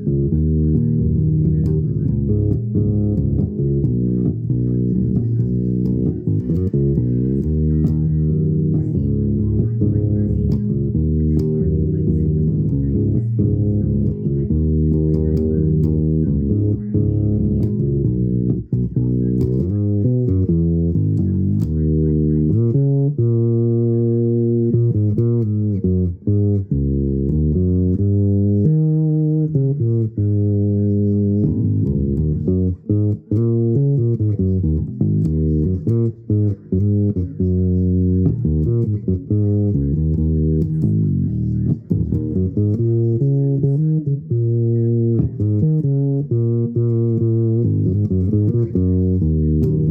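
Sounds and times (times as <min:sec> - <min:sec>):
low plucked string instrument: 0:00.0 - 0:49.9.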